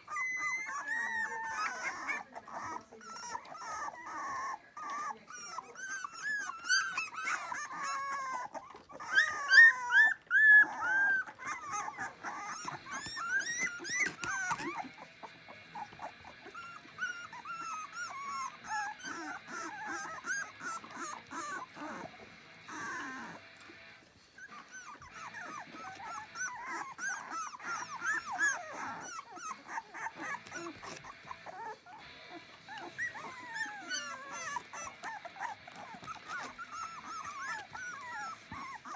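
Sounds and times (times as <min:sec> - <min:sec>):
puppies squealing and squeaking: 0:00.0 - 0:38.9.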